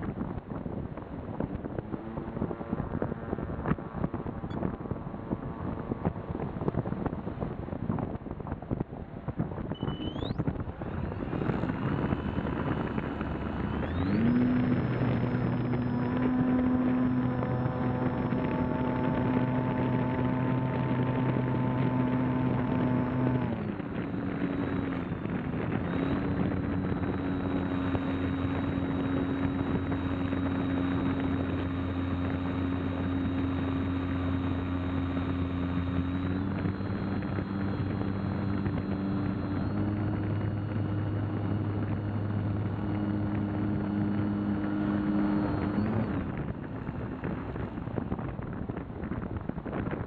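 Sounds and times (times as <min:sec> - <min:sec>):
electric motor and propeller whine: 0:00.0 - 0:50.0.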